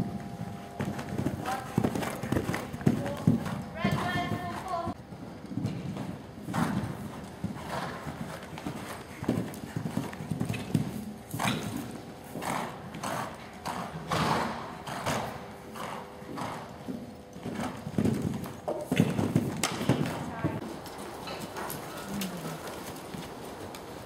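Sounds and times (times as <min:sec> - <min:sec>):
horse hoofbeats on sand: 0:00.0 - 0:24.0.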